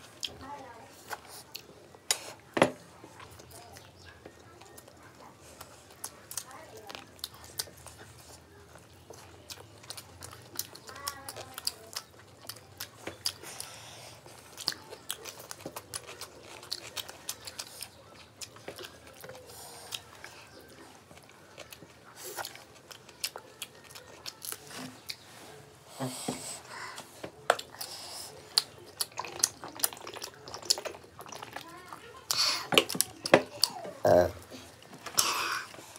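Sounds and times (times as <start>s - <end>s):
people chewing and biting food: 0.0s - 35.9s.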